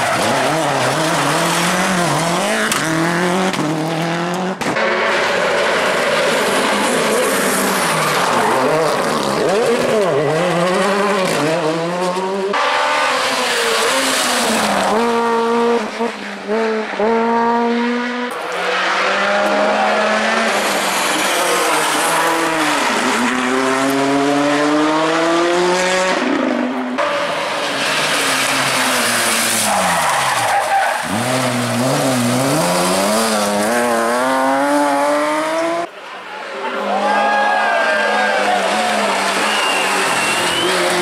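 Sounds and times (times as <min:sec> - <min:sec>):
rally car engines at full throttle: 0:00.0 - 0:41.0.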